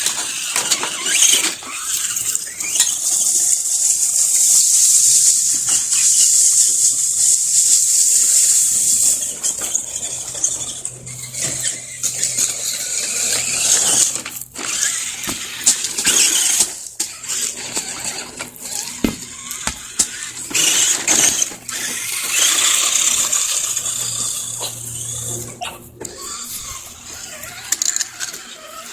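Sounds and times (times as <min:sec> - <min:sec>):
electric motor whining: 0:00.0 - 0:28.9.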